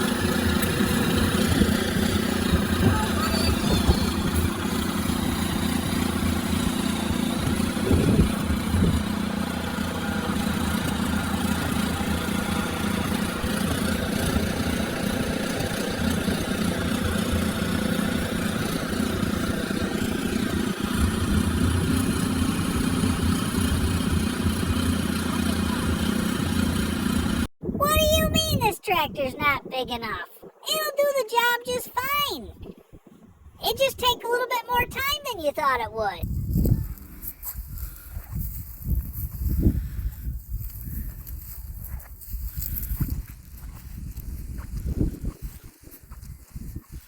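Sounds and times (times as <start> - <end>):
small tractor engine running: 0.0 - 27.5, 36.5 - 47.0.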